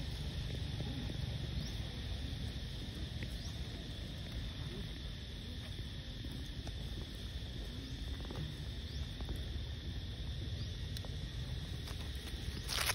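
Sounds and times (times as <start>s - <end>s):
high insect drone: 0.0s - 12.9s.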